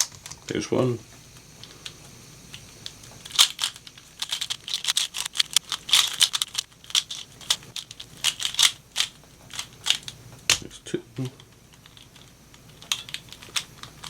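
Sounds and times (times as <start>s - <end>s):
puzzle cube plastic clicks: 0.0s - 0.6s, 1.4s - 10.7s, 11.3s - 14.0s.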